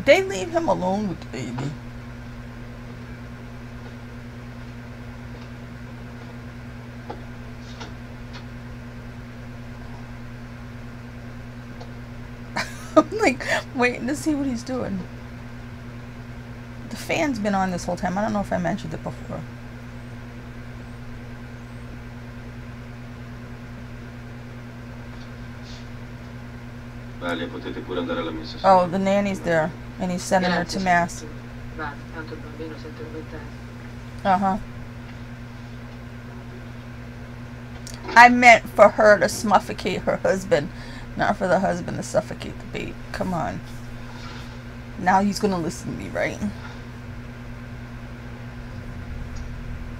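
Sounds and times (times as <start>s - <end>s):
electric fan humming: 0.0s - 49.9s.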